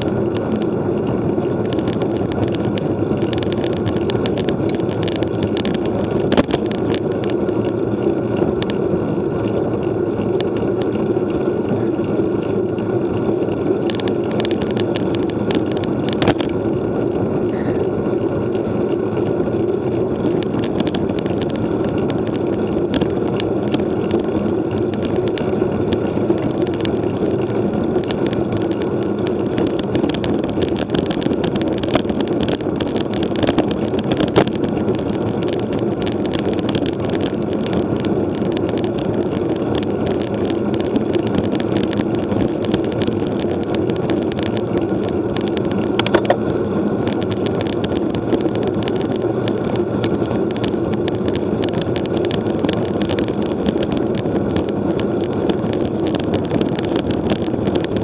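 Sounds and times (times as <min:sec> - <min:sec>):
rushing noise of bike at speed: 0:00.0 - 0:58.0
sharp clicks and rattles: 0:00.0 - 0:58.0.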